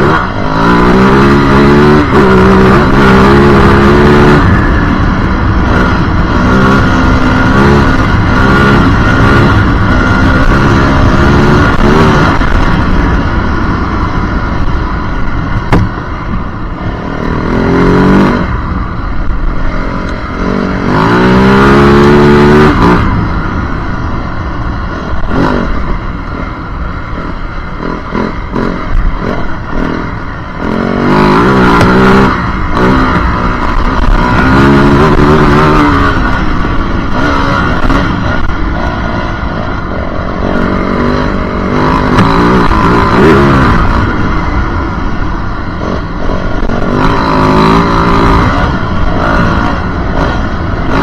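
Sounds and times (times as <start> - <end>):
dirt bike engine revving: 0.0 - 51.0
engine clatter: 0.0 - 51.0.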